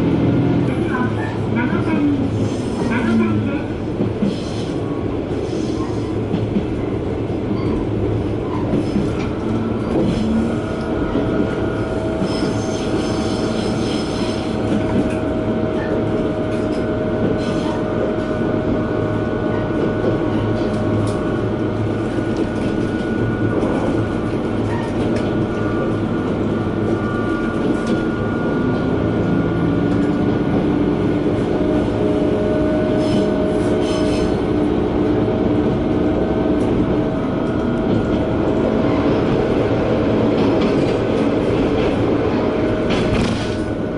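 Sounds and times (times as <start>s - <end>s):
train engine and wheels rumbling: 0.0s - 43.9s
train whine: 0.0s - 43.9s.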